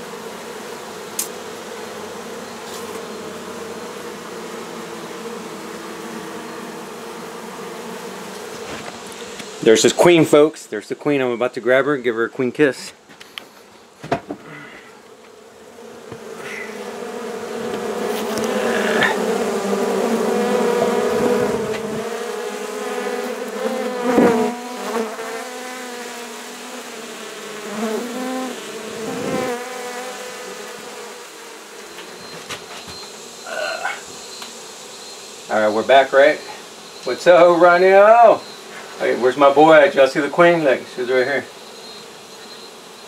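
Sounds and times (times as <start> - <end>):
honey bees buzzing: 0.0 - 43.0.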